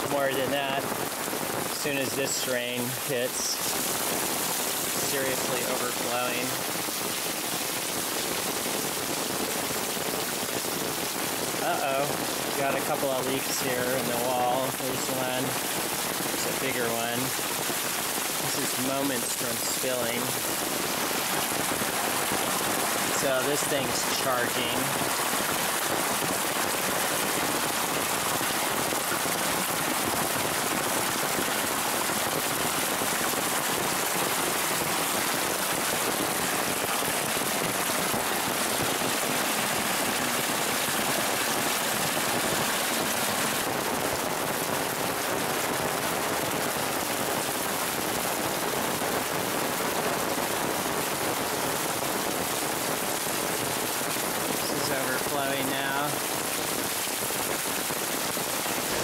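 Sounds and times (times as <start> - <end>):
heavy rain hammering ground: 0.0 - 59.0
stormwater rushing: 0.0 - 59.0.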